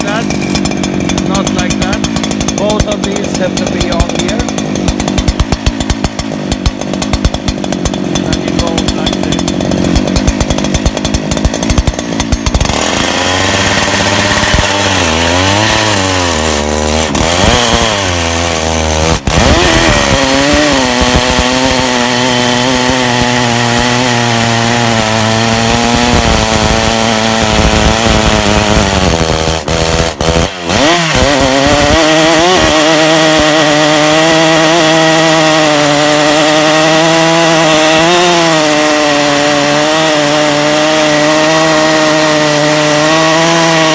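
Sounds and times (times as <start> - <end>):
chainsaw cutting a log: 0.0 - 43.9.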